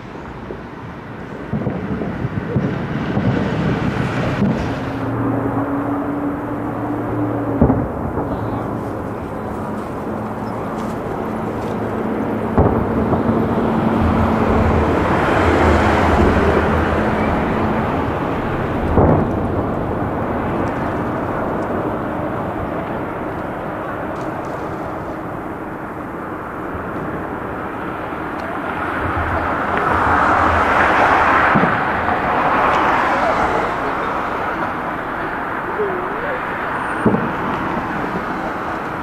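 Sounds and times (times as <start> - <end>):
city traffic and trains rumble: 0.0 - 39.0
fireworks bangs: 0.0 - 39.0.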